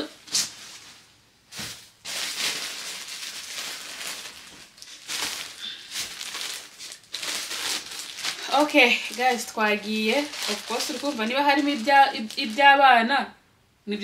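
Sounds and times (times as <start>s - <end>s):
plastic packaging rustling: 0.1s - 13.0s.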